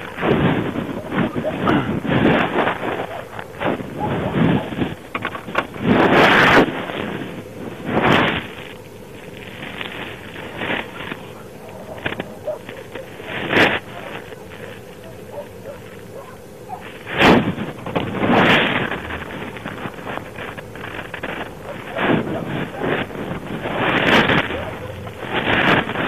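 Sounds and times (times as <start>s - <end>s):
wind noise on microphone: 0.0s - 16.0s, 16.7s - 26.0s.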